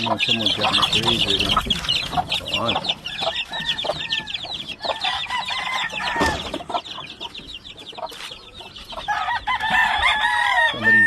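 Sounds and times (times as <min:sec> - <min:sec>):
chicks peeping: 0:00.0 - 0:11.0
hens clucking: 0:00.0 - 0:11.0.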